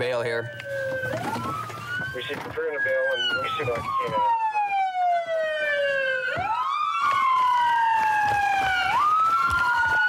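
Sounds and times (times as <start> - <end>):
police sirens wailing: 0.0 - 10.0.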